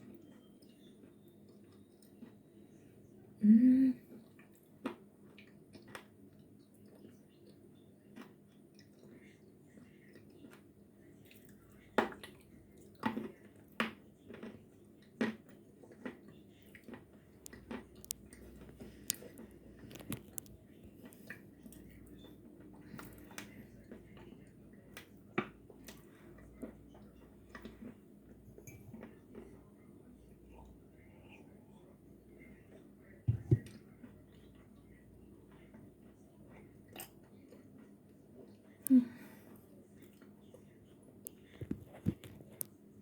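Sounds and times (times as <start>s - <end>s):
soft wet chewing: 0.0s - 3.4s, 4.0s - 43.0s.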